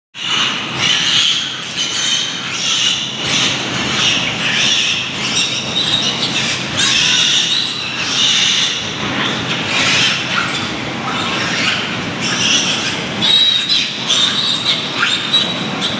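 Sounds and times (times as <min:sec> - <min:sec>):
piglets squealing: 0:00.2 - 0:15.9.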